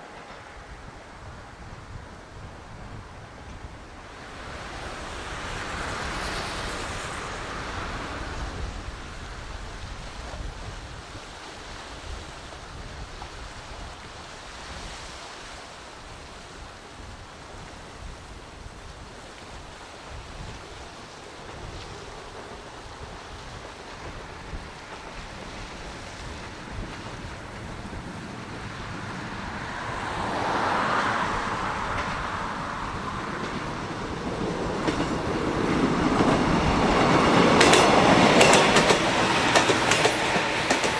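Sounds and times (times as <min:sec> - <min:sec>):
surf washing on shore: 0:00.0 - 0:40.9
wind rumbling on microphone: 0:00.0 - 0:40.9.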